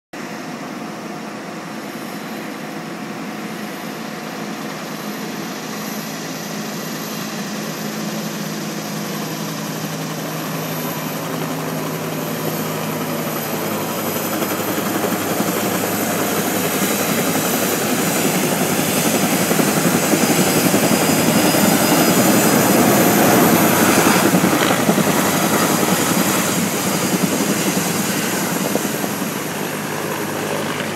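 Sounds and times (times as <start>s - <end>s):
helicopter rotor and engine: 0.2s - 30.9s.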